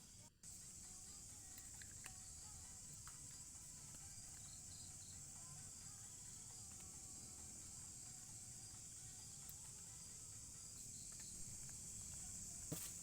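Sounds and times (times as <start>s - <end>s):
chorus of forest insects: 0.1s - 13.0s.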